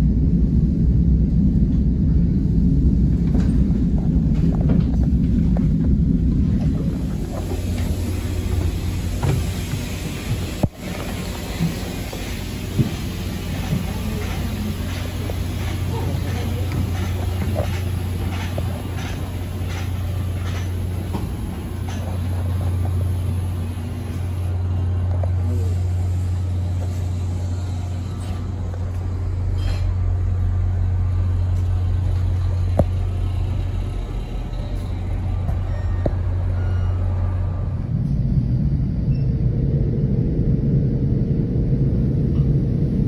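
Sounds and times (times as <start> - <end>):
diesel locomotive idling: 1.5 - 40.8.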